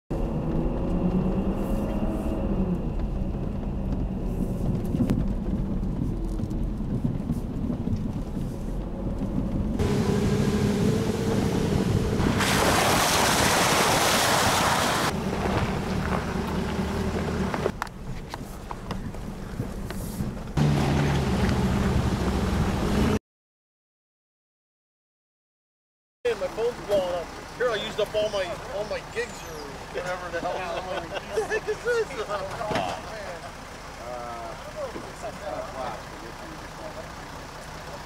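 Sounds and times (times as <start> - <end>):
engine running at low speed: 0.1 - 13.0, 15.0 - 23.2, 26.3 - 38.0.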